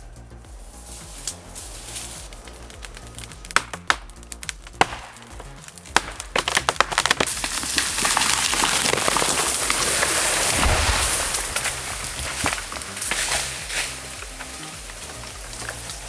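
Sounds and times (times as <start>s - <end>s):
steady rushing noise: 0.0s - 16.0s
wood cracking and splintering: 1.2s - 16.0s.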